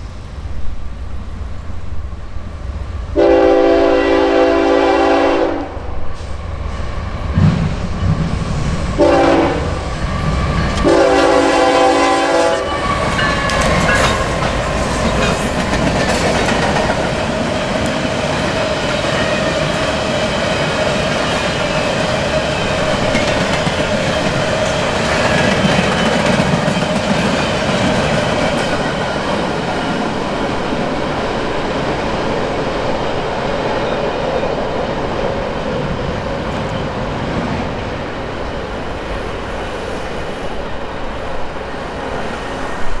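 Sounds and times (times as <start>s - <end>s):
freight train wheels on rail: 0.0s - 43.0s.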